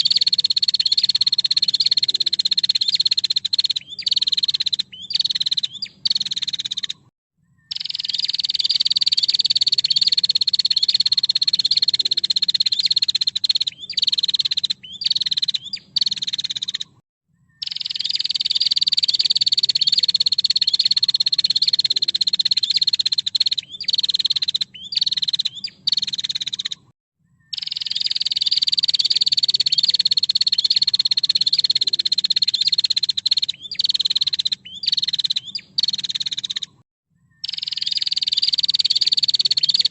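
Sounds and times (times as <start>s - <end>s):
bird chattering calls: 0.0s - 7.1s, 7.7s - 17.0s, 17.6s - 26.9s, 27.5s - 36.8s, 37.4s - 39.9s.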